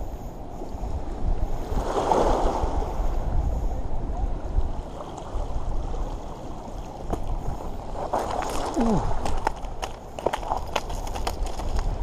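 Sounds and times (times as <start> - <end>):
moving water: 0.0 - 12.0
wind buffeting microphone: 0.0 - 12.0.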